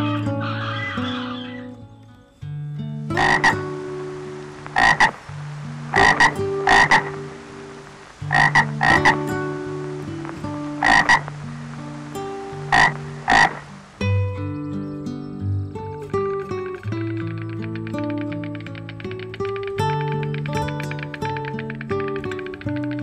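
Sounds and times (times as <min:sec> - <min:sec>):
frog croaking: 0:00.0 - 0:01.8, 0:03.1 - 0:14.2, 0:16.0 - 0:23.0.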